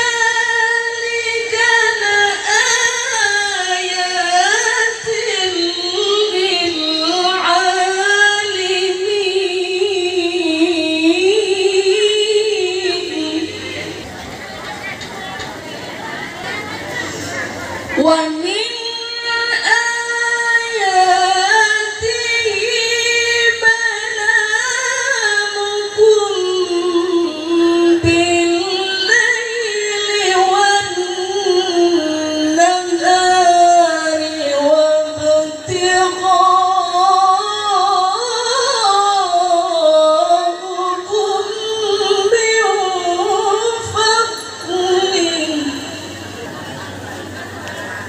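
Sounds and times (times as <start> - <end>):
woman chanting into a microphone: 0.0 - 14.1, 15.9 - 46.4.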